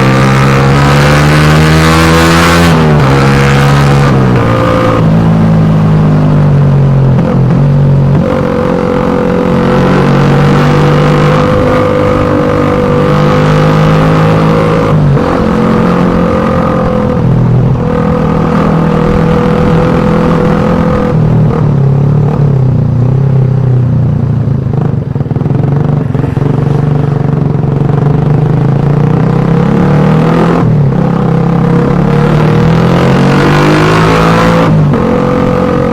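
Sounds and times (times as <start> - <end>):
motorcycle engine running: 0.0 - 33.2.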